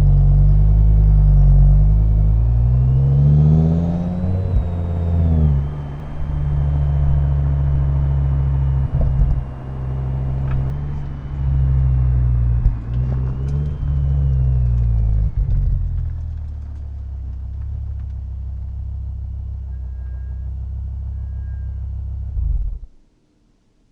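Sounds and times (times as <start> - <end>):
car engine running at low revs: 0.0 - 20.2.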